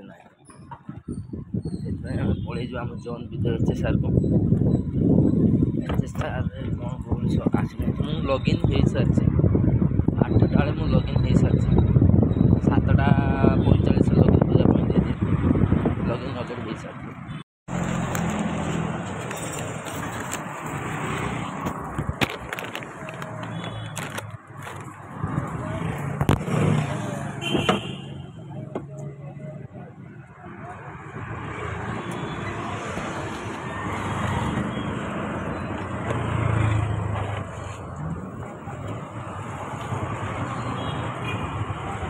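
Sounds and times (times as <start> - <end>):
street traffic engine hum: 0.0 - 42.0.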